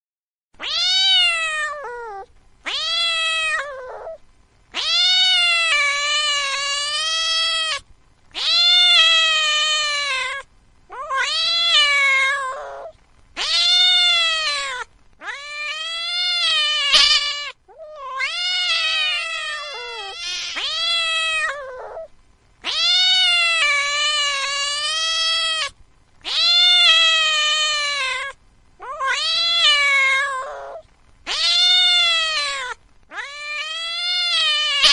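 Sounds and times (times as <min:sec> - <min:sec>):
cat meowing: 0:00.6 - 0:34.9.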